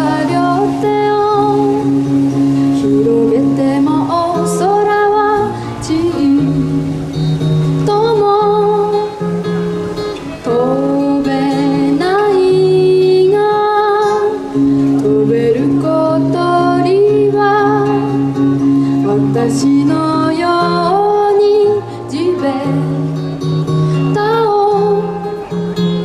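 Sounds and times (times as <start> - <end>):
girl singing: 0.0 - 9.3, 10.4 - 25.8
acoustic guitar: 0.0 - 26.0.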